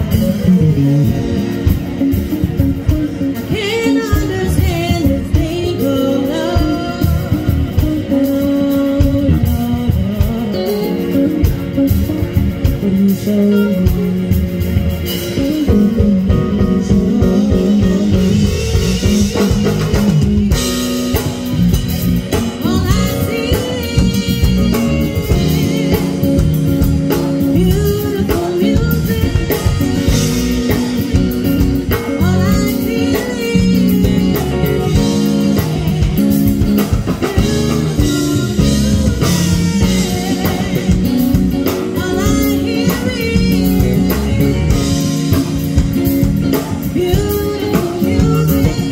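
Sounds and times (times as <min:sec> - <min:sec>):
live band playing: 0:00.0 - 0:48.9
woman singing: 0:02.4 - 0:21.3, 0:22.3 - 0:48.9.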